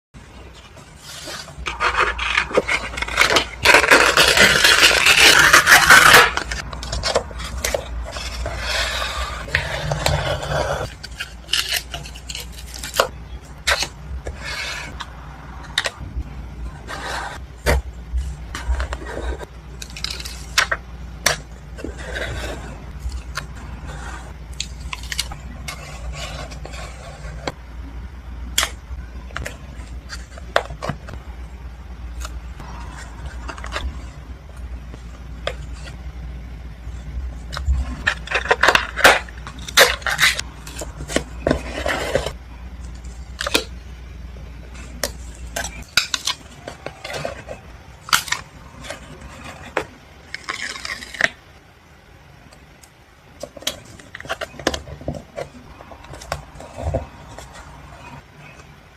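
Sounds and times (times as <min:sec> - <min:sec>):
low hum: 0:00.2 - 0:58.9.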